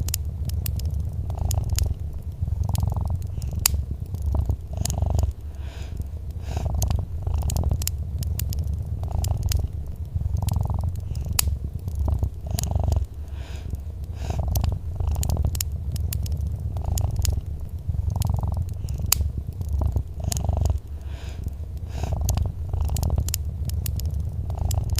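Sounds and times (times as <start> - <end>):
cat purring: 0.0 - 24.9
wood fire crackling: 0.0 - 24.9.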